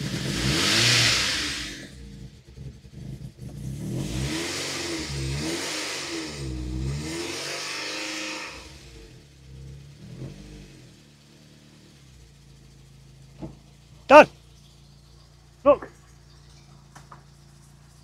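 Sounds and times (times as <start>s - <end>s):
car engine revving and idling: 0.0s - 18.0s.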